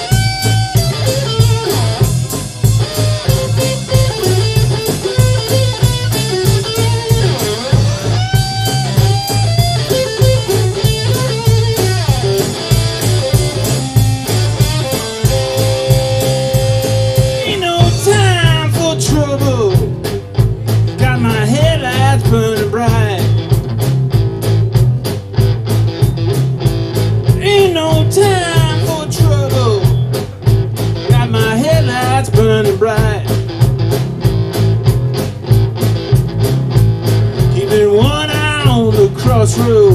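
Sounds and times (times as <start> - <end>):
driving bass line: 0.0 - 39.9
electric guitar lead line: 0.0 - 39.9
live blues-rock band playing: 0.0 - 39.9
steady drum beat: 0.0 - 39.9.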